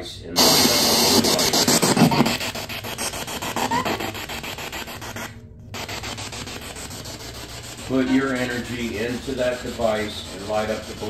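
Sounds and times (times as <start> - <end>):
pulsing radio static hiss: 0.0 - 11.0.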